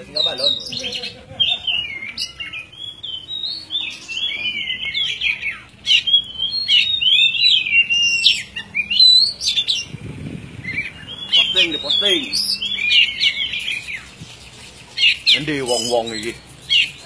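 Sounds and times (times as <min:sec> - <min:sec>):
bird singing whistled song: 0:00.1 - 0:09.9, 0:10.6 - 0:17.0.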